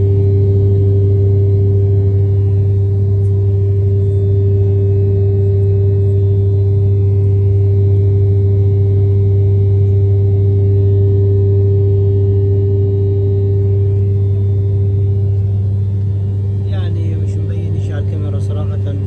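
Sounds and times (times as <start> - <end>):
jet engine cabin drone: 0.0 - 19.0.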